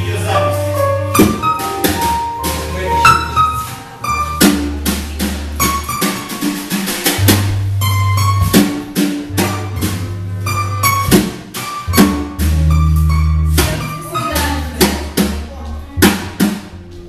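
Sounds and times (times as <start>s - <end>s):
drum kit beat: 0.0s - 17.0s
jazz band playing dance music: 0.0s - 17.0s
long held bass notes: 0.0s - 17.0s.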